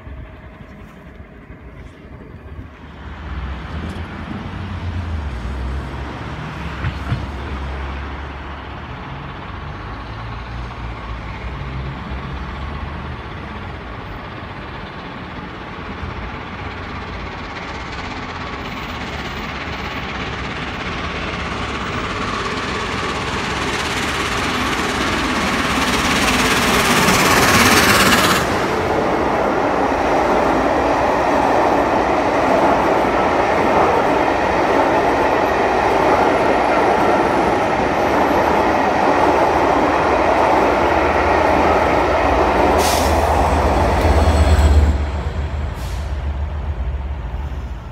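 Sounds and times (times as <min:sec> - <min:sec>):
steam locomotive passing: 0:00.0 - 0:47.9
train wheels rumbling on rail: 0:00.0 - 0:47.9.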